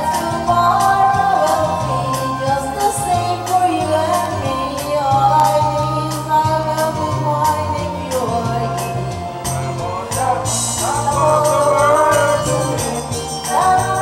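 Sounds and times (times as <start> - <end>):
backing track with bass and beat: 0.0 - 14.0
women singing karaoke: 0.0 - 14.0.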